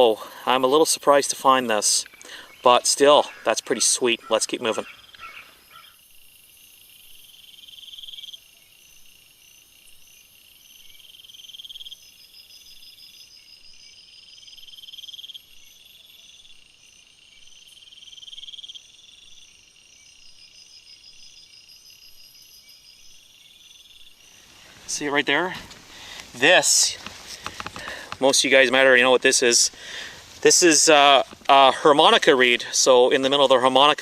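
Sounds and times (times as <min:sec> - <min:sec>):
insect high trill: 0:00.0 - 0:34.0
insects pulsing calls: 0:00.0 - 0:34.0.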